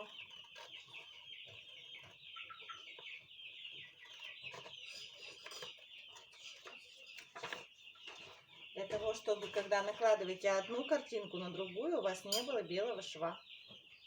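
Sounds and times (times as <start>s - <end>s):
chickens clucking faintly: 0.0s - 14.0s.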